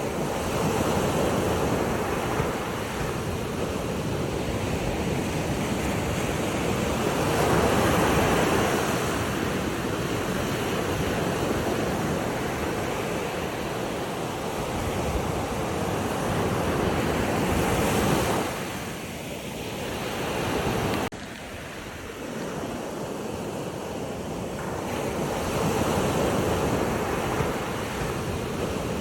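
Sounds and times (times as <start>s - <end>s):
waves washing in and out: 0.0s - 29.0s
wind on microphone: 0.0s - 29.0s.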